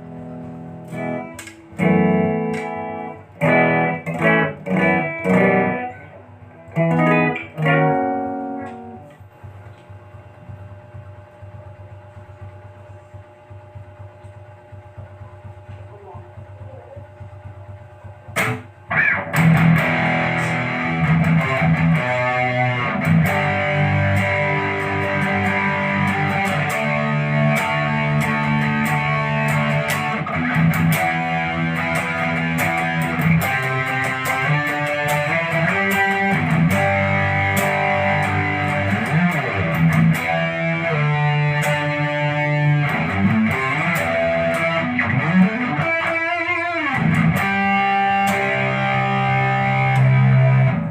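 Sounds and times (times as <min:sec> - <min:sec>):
electric guitar chords and lines: 0:00.0 - 0:12.4, 0:13.8 - 0:50.9
amplifier hum: 0:00.0 - 0:50.9.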